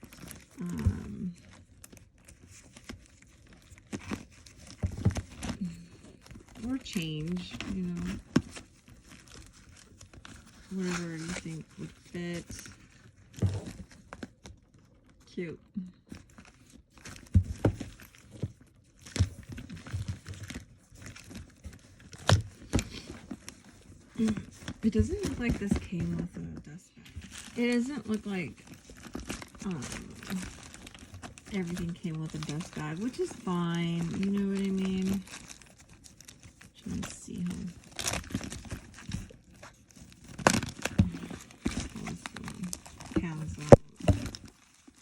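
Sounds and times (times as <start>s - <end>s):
packaging crinkling and rustling: 0.0s - 15.4s, 16.0s - 45.0s.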